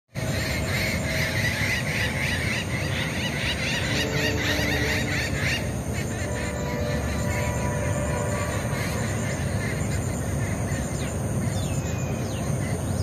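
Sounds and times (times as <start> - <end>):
parakeet calling: 0.2 - 12.4
low rumble: 0.5 - 11.4.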